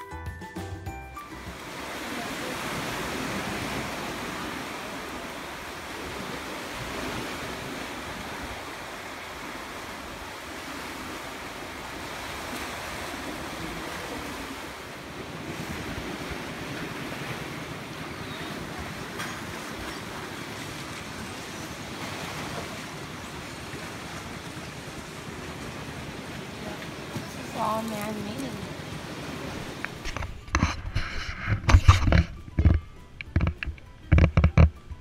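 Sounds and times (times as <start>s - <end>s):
wind rumbling on microphone: 1.4s - 35.0s
waves washing over rocky shore: 1.5s - 30.5s.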